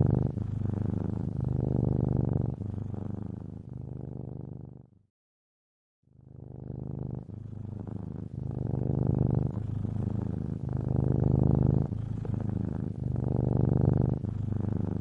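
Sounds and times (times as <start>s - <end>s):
cat purring: 0.0s - 5.0s, 6.2s - 15.0s.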